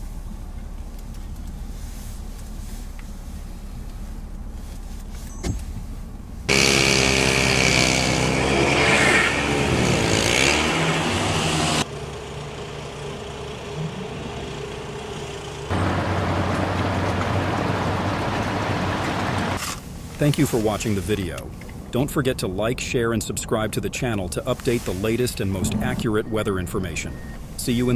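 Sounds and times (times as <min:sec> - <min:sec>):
vehicle engines running: 0:00.0 - 0:27.9.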